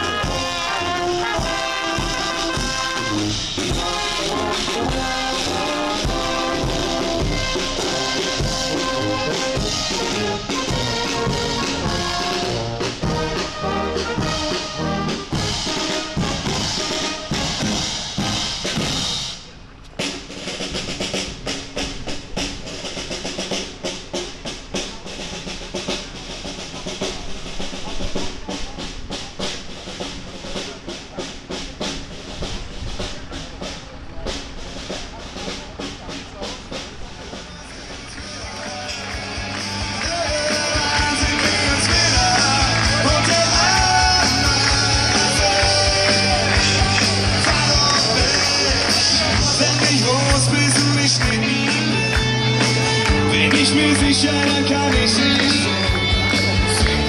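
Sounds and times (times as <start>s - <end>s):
brass marching band: 0.0s - 57.0s
regular drum beat: 0.0s - 57.0s.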